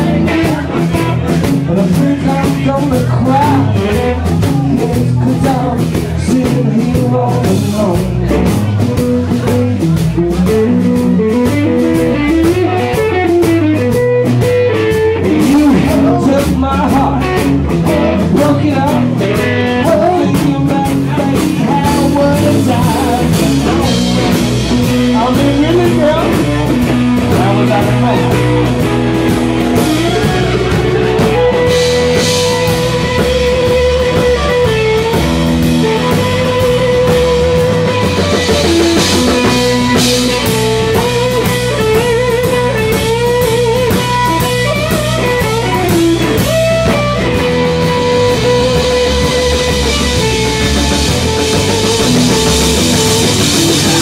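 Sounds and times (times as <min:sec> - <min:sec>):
bass guitar: 0:00.0 - 0:54.0
drum kit: 0:00.0 - 0:54.0
electric guitar bending notes: 0:00.0 - 0:54.0.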